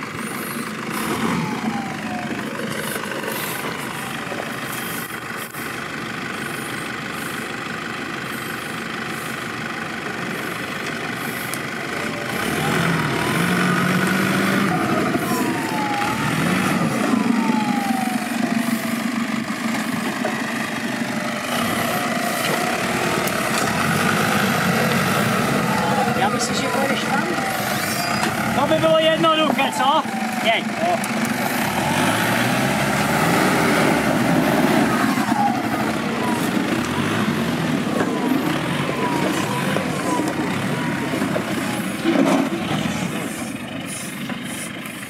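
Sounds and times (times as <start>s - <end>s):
engine revving: 0.0s - 5.7s, 8.2s - 45.0s.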